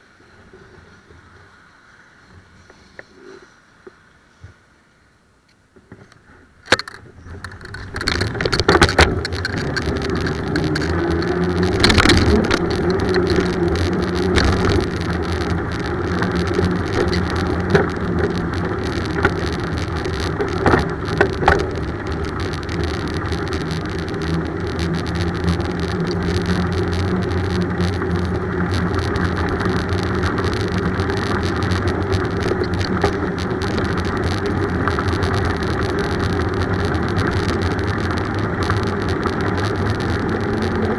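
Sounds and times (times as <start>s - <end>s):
road and wind noise: 0.0s - 40.9s
bicycle rattles and knocks: 5.8s - 40.9s.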